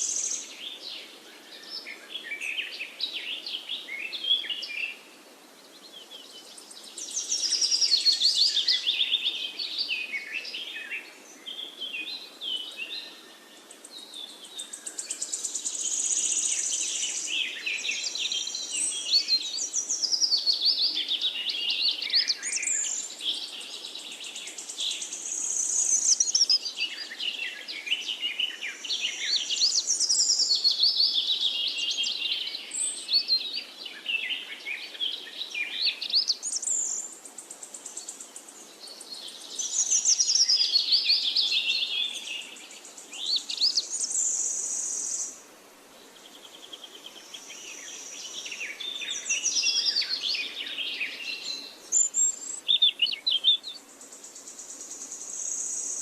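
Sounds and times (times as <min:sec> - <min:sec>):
songbirds singing with trills: 0:00.0 - 0:56.0.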